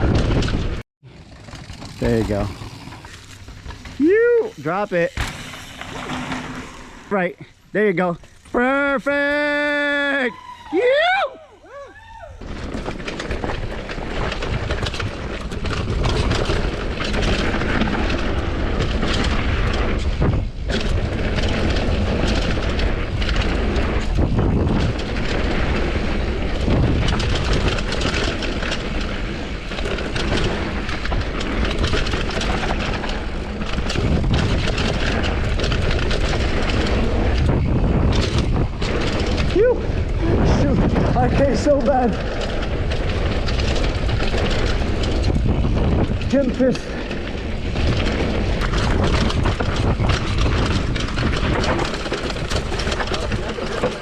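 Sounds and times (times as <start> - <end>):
wind buffeting microphone: 0.0 - 7.4, 10.1 - 54.0
tyres on rough dirt: 0.0 - 10.8, 12.4 - 54.0
bike chain and suspension rattles: 0.0 - 11.0, 11.7 - 54.0.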